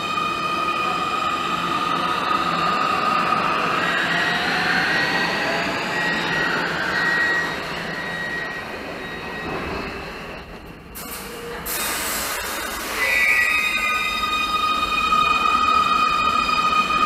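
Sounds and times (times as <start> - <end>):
train wheel and rail noise: 0.0 - 17.0.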